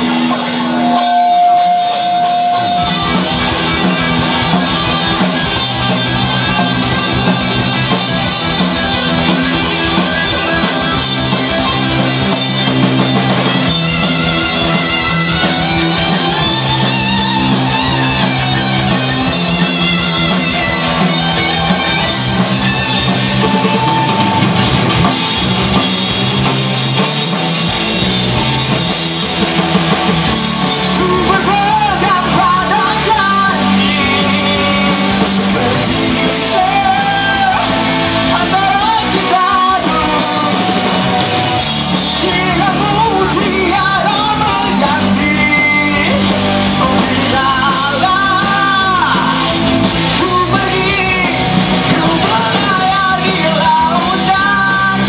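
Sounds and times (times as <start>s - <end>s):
man singing lead: 0.0s - 24.6s, 30.3s - 55.0s
live rock band playing: 0.0s - 55.0s.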